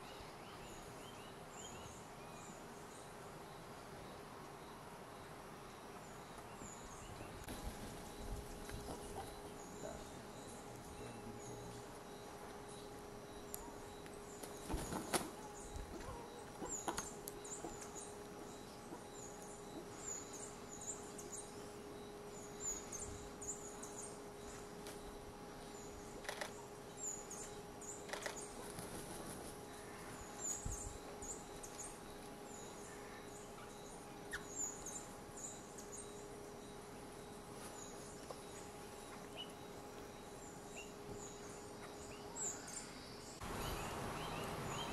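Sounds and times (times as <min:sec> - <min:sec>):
faint hum: 0:00.0 - 0:44.9
high chirping of birds or insects: 0:00.0 - 0:44.9.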